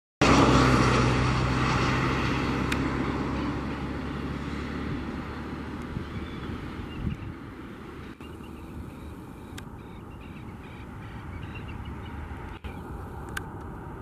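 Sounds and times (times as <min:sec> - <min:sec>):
jet engines humming: 0:00.2 - 0:14.0.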